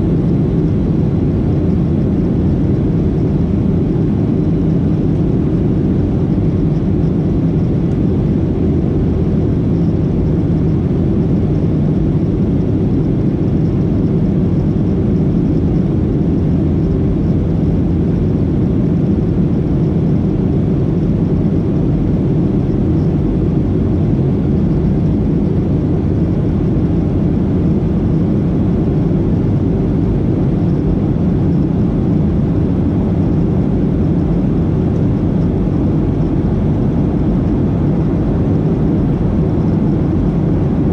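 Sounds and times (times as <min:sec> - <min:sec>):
airplane cabin engine noise: 0:00.0 - 0:40.9.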